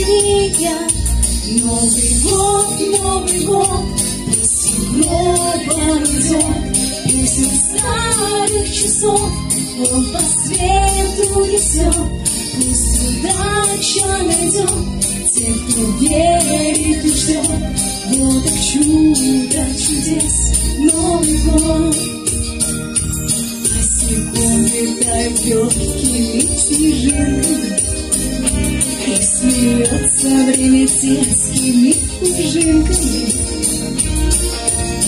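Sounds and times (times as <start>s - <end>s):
song with instrumental accompaniment: 0.0s - 35.0s.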